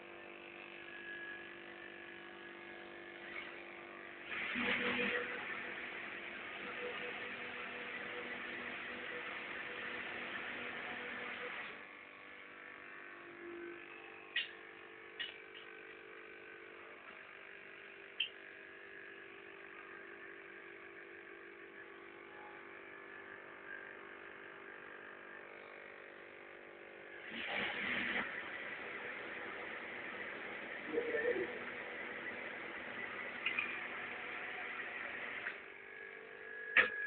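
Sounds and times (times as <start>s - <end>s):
small electric motor humming: 0.0s - 37.0s.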